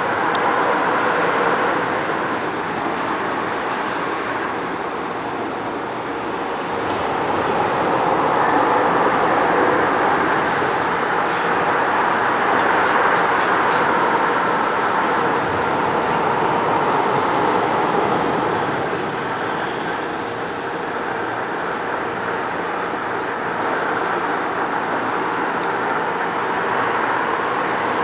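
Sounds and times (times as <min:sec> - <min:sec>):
freight cars rolling on rails: 0:00.0 - 0:28.0.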